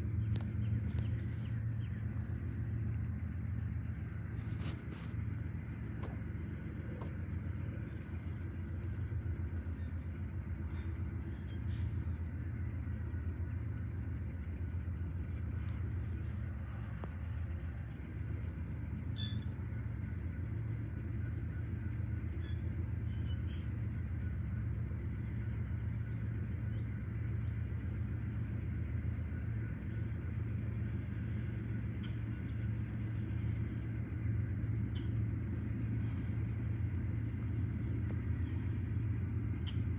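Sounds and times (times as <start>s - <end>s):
diesel locomotive engine rumble: 0.0s - 39.9s.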